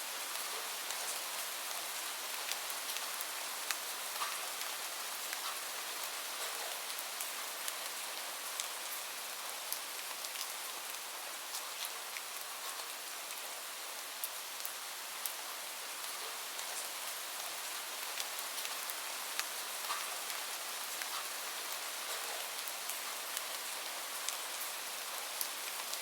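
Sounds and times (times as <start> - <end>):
steady rain hiss: 0.0 - 26.0
raindrops ticking on surface: 0.1 - 26.0.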